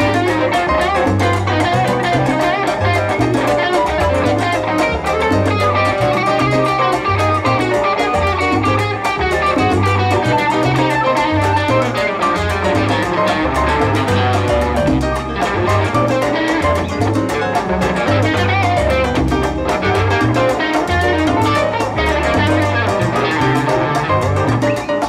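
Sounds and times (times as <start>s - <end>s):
conga drumming: 0.0s - 25.0s
electric guitar lead: 0.0s - 25.0s
upright bass line: 0.0s - 25.0s.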